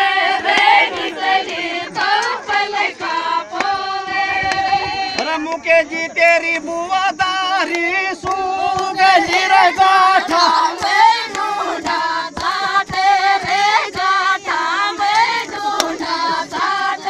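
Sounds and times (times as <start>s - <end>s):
women singing in chorus: 0.0s - 17.0s.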